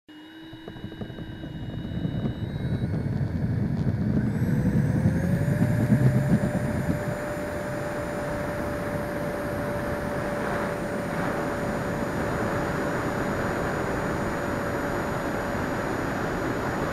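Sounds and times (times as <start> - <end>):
electric ducted fan whining: 0.1 - 16.9
landing gear rumbling on runway: 0.6 - 16.9.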